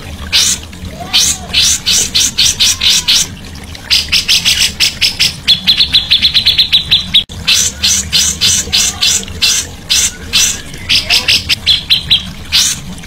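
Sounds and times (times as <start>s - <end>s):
songbird harsh high calls: 0.3s - 3.3s, 3.9s - 12.8s.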